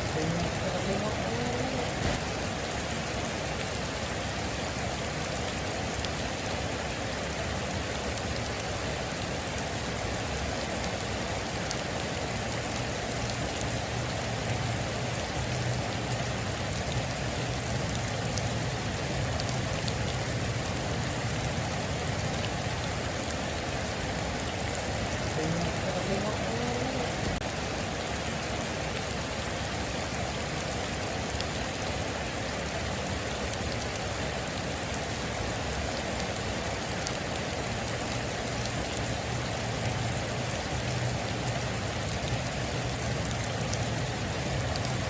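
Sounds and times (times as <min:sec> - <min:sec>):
heavy rain on a metal roof: 0:00.0 - 0:45.0.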